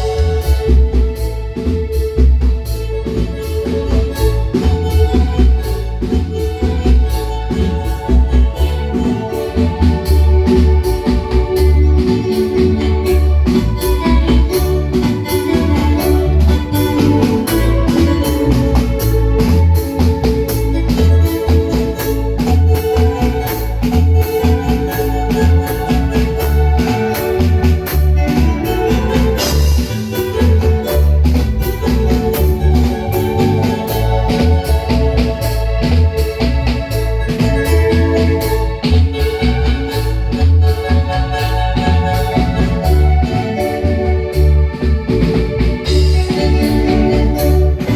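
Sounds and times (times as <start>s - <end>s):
bass and drum beat: 0.0s - 47.9s
marimba band playing dance music: 0.0s - 47.9s.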